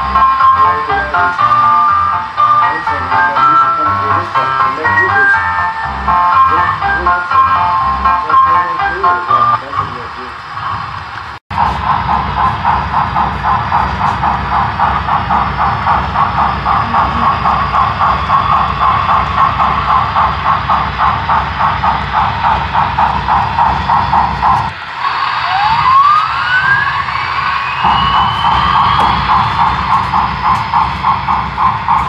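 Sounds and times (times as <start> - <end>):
model locomotive chuffing: 0.0 - 32.0
rising whine: 0.0 - 32.0.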